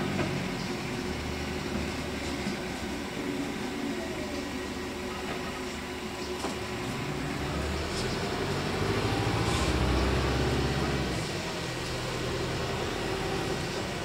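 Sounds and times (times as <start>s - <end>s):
bus cabin rumble: 0.0s - 14.0s
low drivetrain drone: 0.0s - 14.0s.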